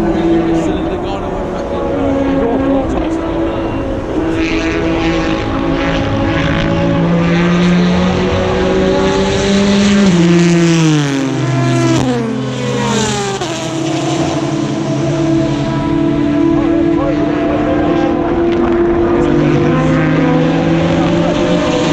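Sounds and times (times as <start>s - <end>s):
race cars passing at speed: 0.0s - 21.9s.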